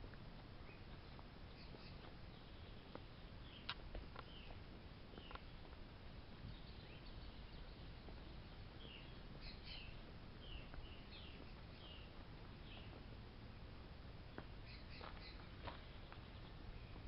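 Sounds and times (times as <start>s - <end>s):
low steady rumble: 0.0s - 17.0s
birds chirping: 0.5s - 17.0s.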